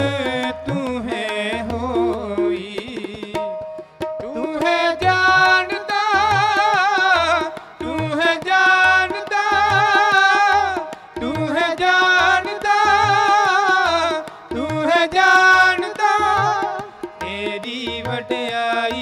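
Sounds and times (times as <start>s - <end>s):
tabla strokes: 0.0s - 19.0s.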